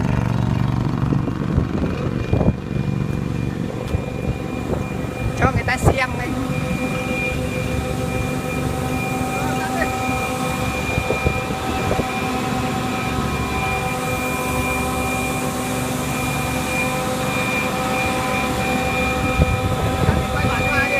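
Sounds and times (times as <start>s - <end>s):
drilling machine droning and whining: 0.0s - 20.9s.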